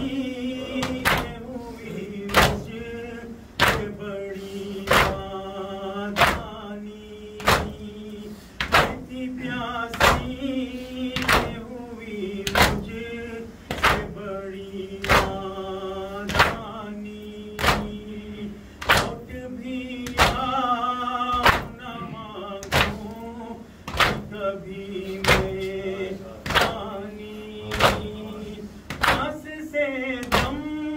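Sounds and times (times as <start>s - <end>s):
men slapping their chests: 0.0s - 4.1s, 4.7s - 5.4s, 6.0s - 6.7s, 7.3s - 11.7s, 12.4s - 27.0s, 27.7s - 29.6s, 30.2s - 30.8s
man chanting a lament: 0.0s - 30.9s.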